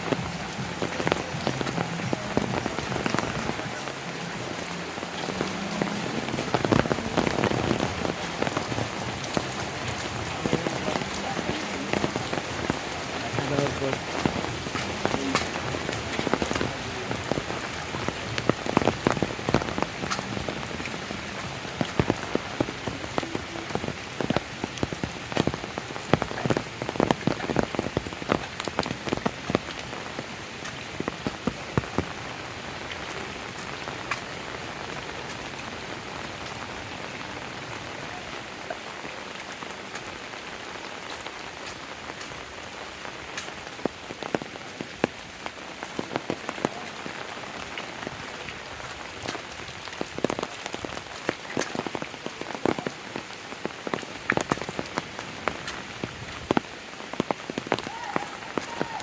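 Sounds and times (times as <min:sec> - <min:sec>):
rain falling: 0:00.0 - 0:59.0
sharp raindrop hits: 0:00.0 - 0:59.0.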